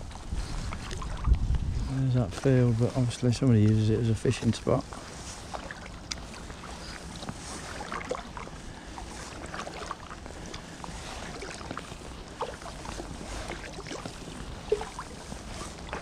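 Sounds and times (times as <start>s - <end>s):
paddle sloshing through water: 0.0s - 1.9s, 4.4s - 16.0s
water drips and small splashes: 0.0s - 16.0s.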